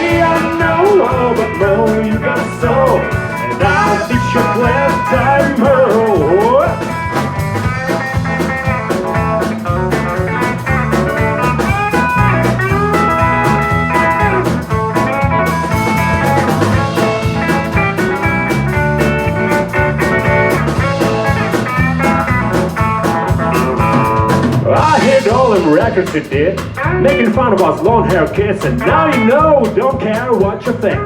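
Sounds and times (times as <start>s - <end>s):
bass guitar: 0.0s - 31.0s
drum kit beat: 0.0s - 31.0s
lead guitar with bending notes: 0.0s - 31.0s.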